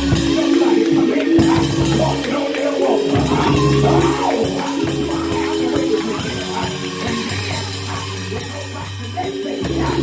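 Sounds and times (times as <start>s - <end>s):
bass line: 0.0s - 10.0s
drums: 0.0s - 10.0s
held keyboard chords: 0.0s - 10.0s.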